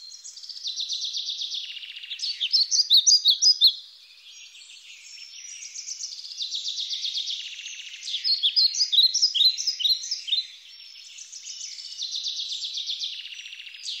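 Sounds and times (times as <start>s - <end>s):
small songbirds trilling: 0.0s - 14.0s.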